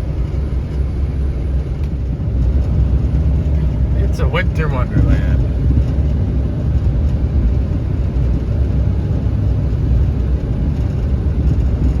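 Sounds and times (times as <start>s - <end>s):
diesel engine rumble: 0.0s - 12.0s
road noise: 0.0s - 12.0s.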